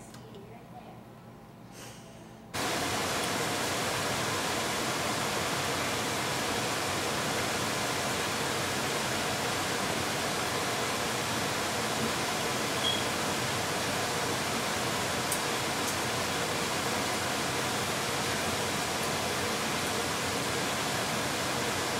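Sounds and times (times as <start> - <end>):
steady static hiss: 2.5 - 21.9.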